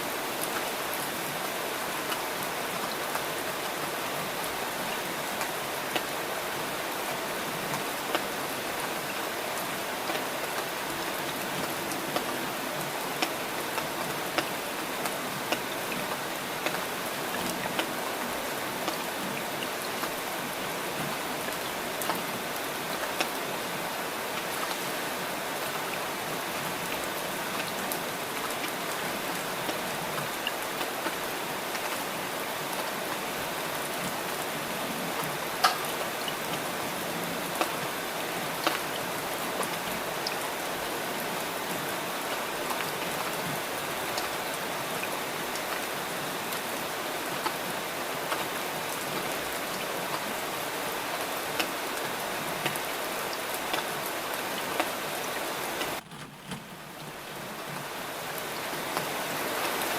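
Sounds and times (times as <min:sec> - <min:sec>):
steady rain falling: 0:00.0 - 0:59.9
raindrops ticking close by: 0:00.2 - 0:59.9.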